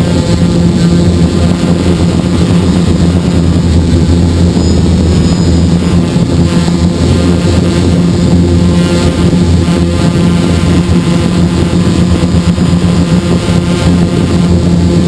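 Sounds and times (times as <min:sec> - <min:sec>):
drone motors and propellers: 0:00.0 - 0:15.0.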